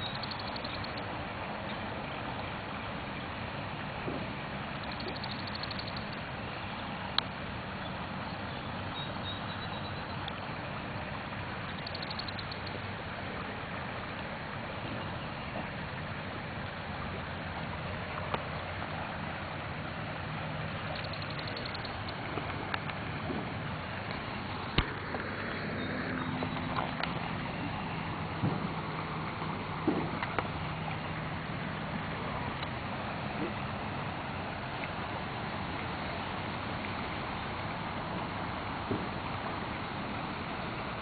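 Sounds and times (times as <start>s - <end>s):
flood water rushing: 0.0s - 41.0s.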